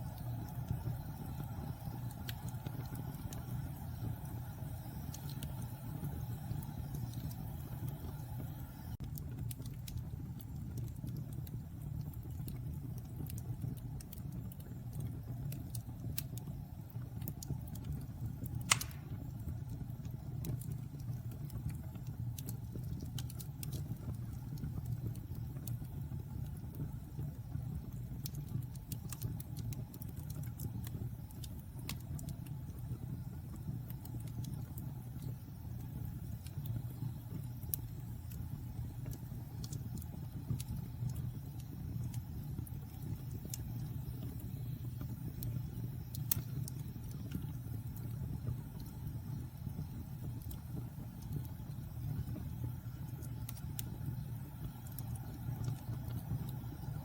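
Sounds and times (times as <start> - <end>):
fire crackling: 0.0 - 57.0
fire popping: 0.0 - 57.0
fire rumbling: 0.0 - 57.0.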